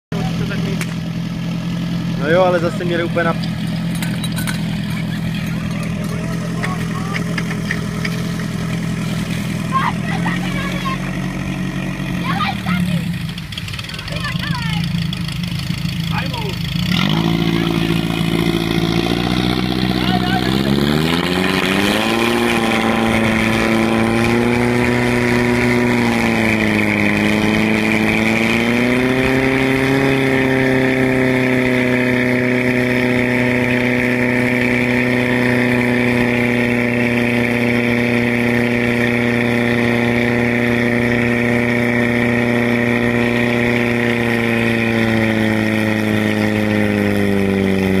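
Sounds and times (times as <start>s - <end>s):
pump engine running hard: 0.1s - 48.0s.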